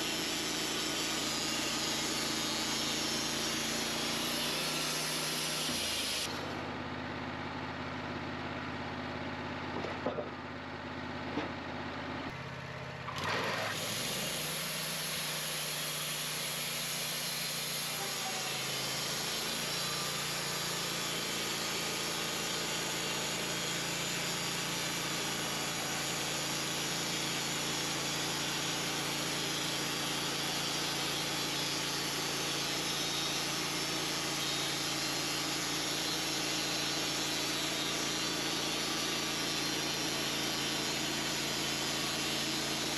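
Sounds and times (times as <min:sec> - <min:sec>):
band sawmill running: 0:00.0 - 0:10.3, 0:10.9 - 0:42.9.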